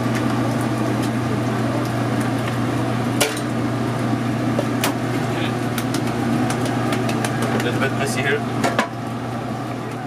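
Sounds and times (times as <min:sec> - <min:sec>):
kitchen equipment humming: 0:00.0 - 0:10.0.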